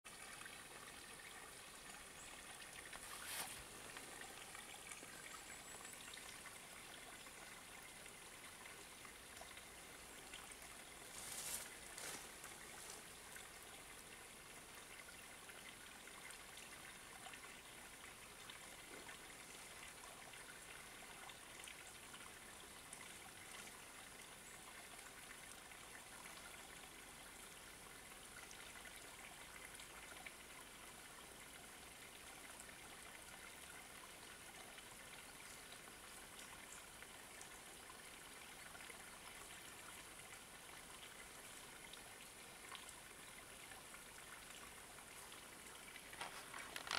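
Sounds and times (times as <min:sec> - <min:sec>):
faint steady hiss: 0:00.1 - 0:46.9.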